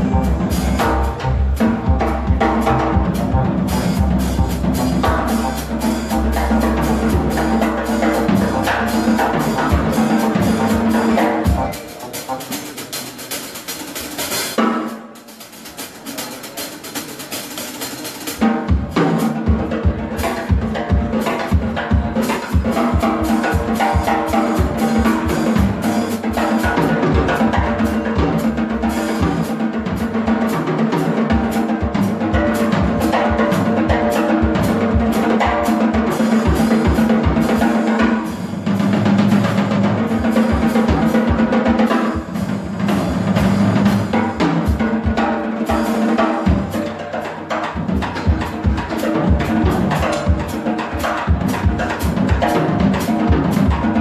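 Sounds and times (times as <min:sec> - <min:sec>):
drum kit: 0:00.0 - 0:54.0
live band playing folk music: 0:00.0 - 0:54.0.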